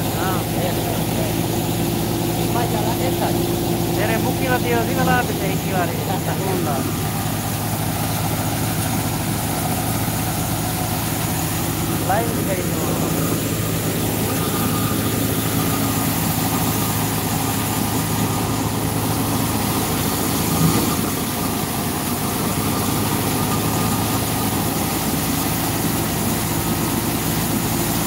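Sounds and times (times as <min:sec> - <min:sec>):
wheat thresher machine humming: 0:00.0 - 0:28.0.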